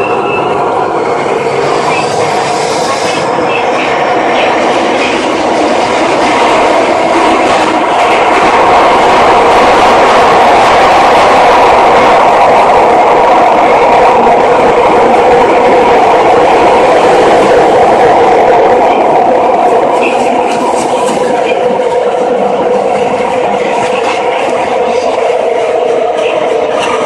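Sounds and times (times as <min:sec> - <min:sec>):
subway train rail noise: 0:00.0 - 0:27.0.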